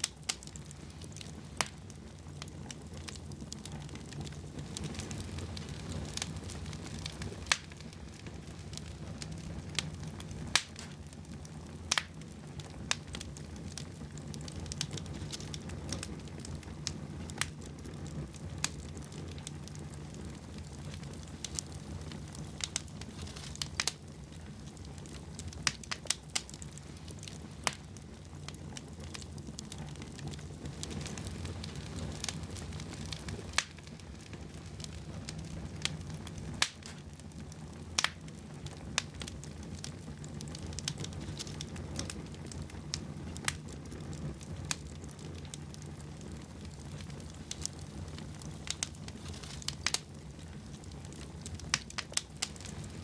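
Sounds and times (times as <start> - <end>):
fire crackling in fireplace: 0.0 - 53.0
low rumble of flames: 0.0 - 53.0.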